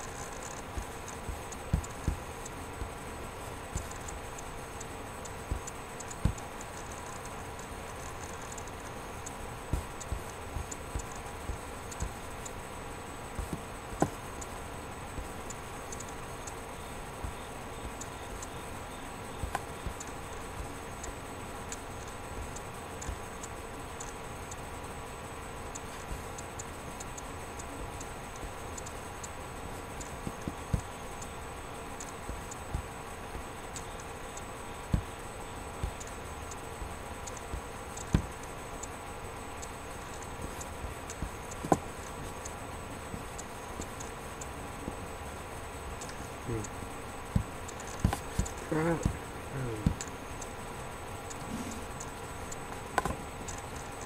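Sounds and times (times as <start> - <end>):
faint irregular ticking: 0.0 - 54.0
steady electrical hum: 0.0 - 54.0.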